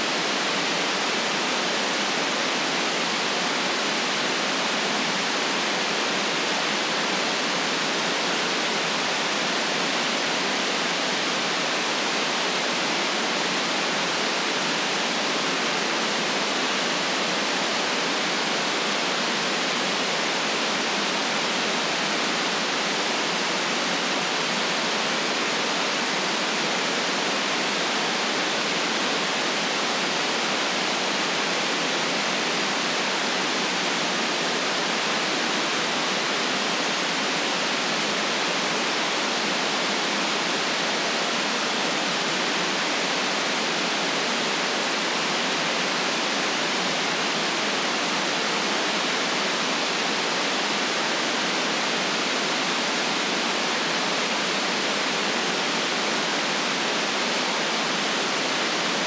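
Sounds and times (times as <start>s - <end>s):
electronic white noise hiss: 0.0s - 59.0s.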